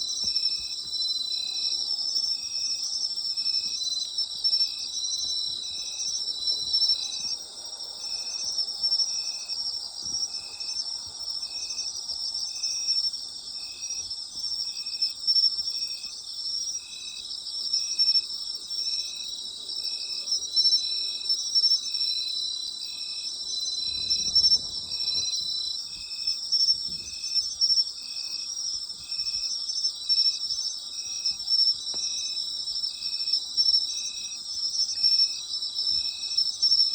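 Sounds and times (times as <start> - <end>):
insect chirping rhythmically: 0.0 - 36.9
insect high-pitched buzz: 0.0 - 36.9
insects trilling chorus: 0.0 - 36.9.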